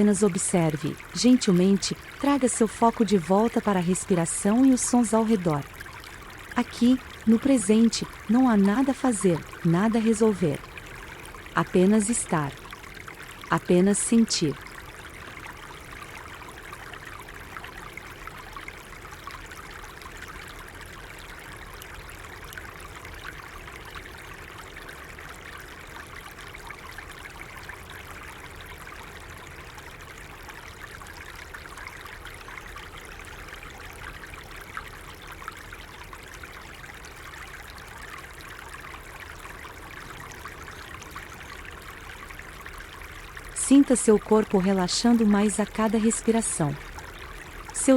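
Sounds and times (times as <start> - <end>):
stream babbling: 0.0 - 47.9.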